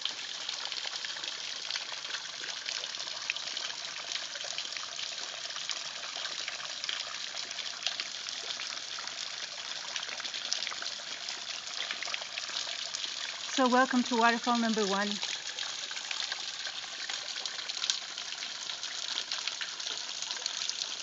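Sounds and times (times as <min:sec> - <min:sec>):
small waterfall splashing: 0:00.0 - 0:21.0.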